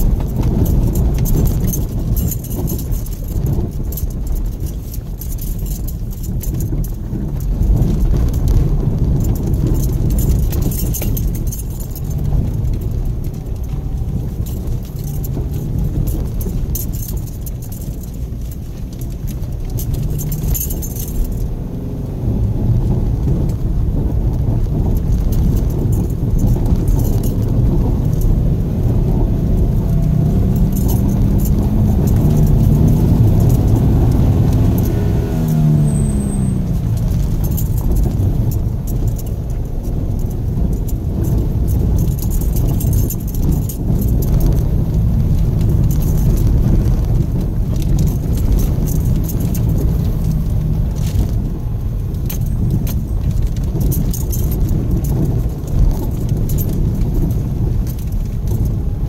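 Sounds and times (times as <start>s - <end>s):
jingling and rattling: 0.0s - 22.0s, 24.4s - 59.0s
car engine: 0.0s - 59.0s
tyres rumbling on dirt road: 0.0s - 59.0s.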